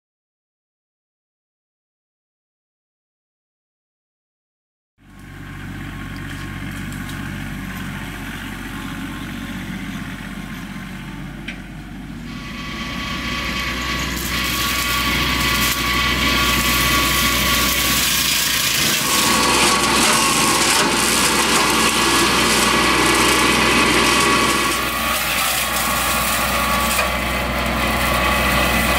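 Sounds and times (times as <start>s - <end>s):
mulcher rotor chewing brush: 5.0s - 28.9s
tractor engine running: 5.0s - 28.9s.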